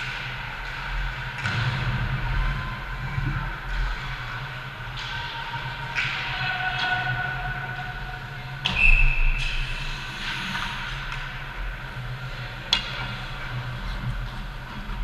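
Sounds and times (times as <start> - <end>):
ice rink hum: 0.0 - 15.0.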